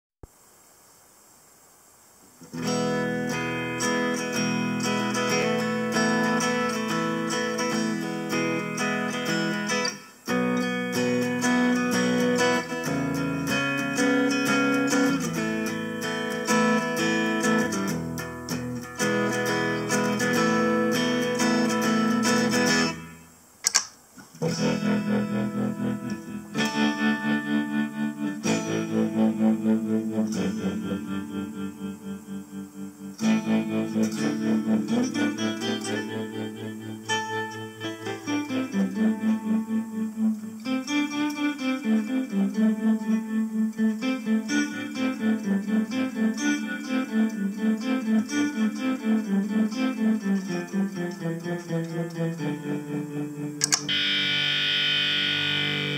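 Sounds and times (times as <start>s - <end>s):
electric guitar chords: 2.4s - 55.9s.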